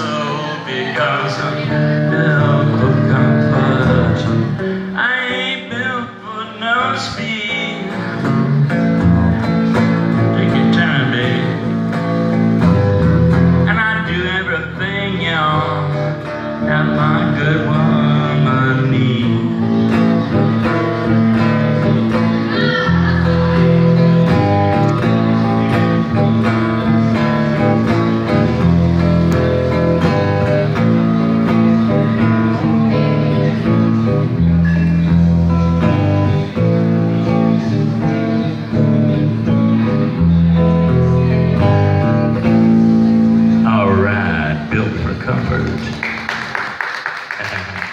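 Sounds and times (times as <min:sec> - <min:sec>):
electric guitar playing: 0:00.0 - 0:46.8.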